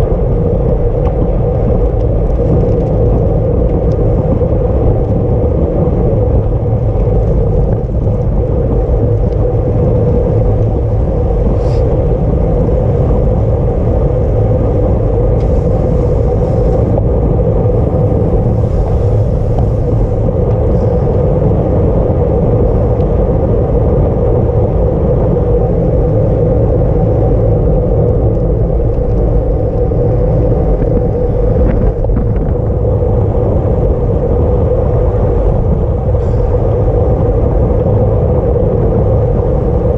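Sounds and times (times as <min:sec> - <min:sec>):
faint hum: 0:00.0 - 0:39.9
wind rushing over microphone: 0:00.0 - 0:39.9.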